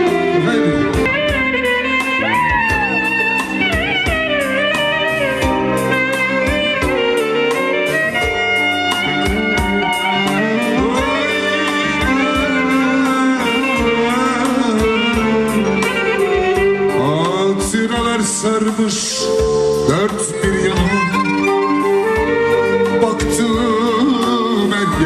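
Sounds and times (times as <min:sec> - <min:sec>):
instrumental music with steady beat: 0:00.0 - 0:25.0.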